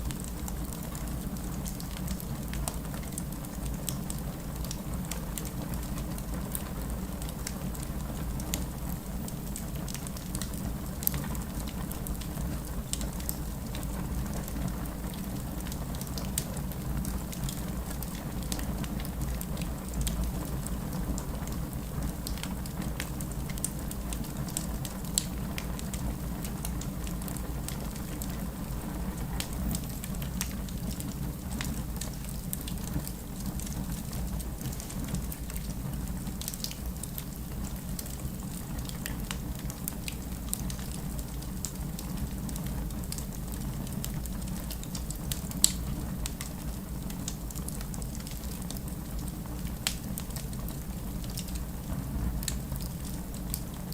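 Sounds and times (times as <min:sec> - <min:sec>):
fire crackling and popping: 0:00.0 - 0:53.9
wood fire flames rumbling: 0:00.0 - 0:53.9.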